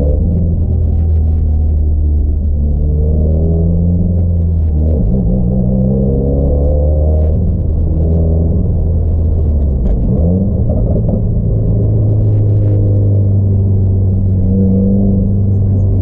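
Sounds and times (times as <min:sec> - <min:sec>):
car engine and exhaust rumbling: 0:00.0 - 0:16.0.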